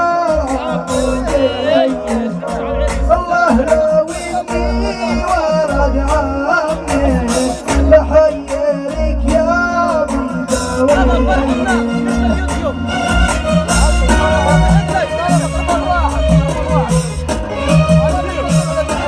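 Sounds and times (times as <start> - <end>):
instrumental backing with drum beat: 0.0 - 19.0
man singing: 0.0 - 19.0.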